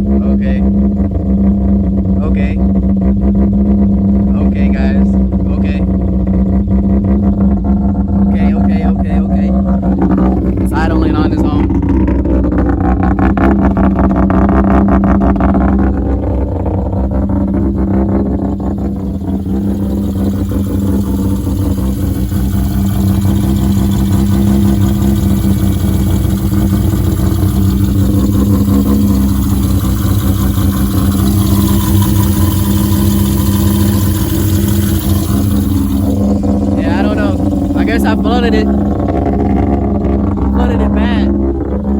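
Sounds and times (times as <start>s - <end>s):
rotary engine idling: 0.0s - 41.9s.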